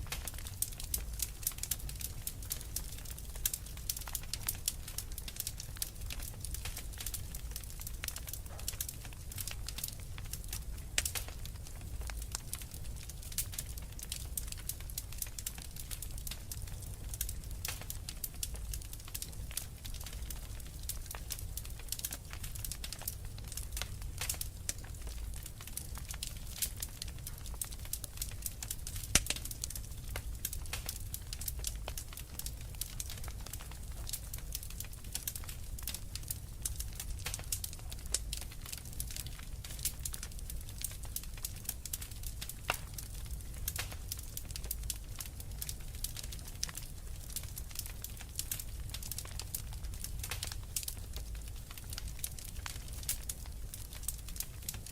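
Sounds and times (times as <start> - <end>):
low rumble of flame: 0.0 - 54.9
wood fire crackling: 0.0 - 54.9.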